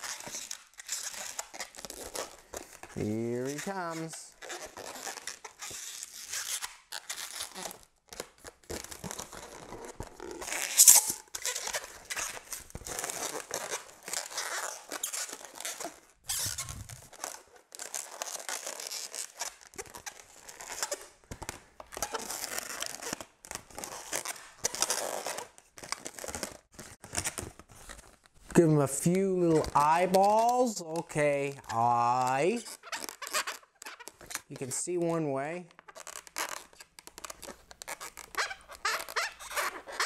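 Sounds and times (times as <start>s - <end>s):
balloon rubbing and squeaking: 0.0s - 40.0s.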